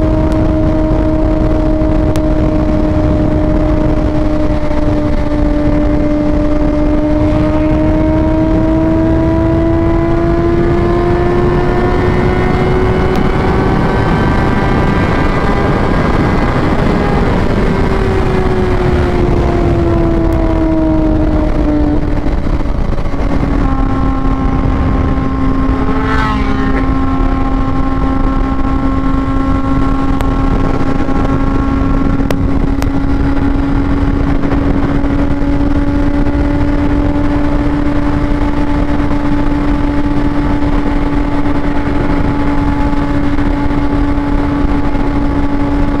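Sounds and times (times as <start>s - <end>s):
motorcycle engine cruising: 0.0s - 46.0s
wind on microphone: 0.0s - 46.0s.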